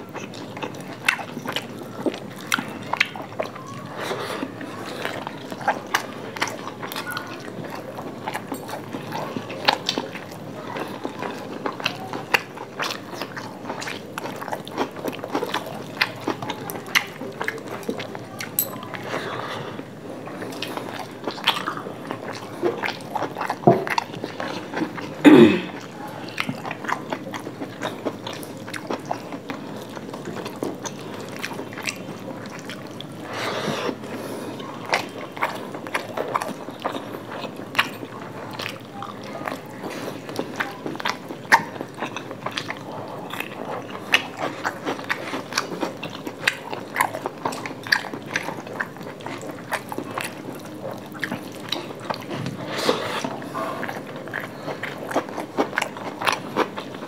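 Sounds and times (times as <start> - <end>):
people chewing and biting food: 0.0 - 57.0.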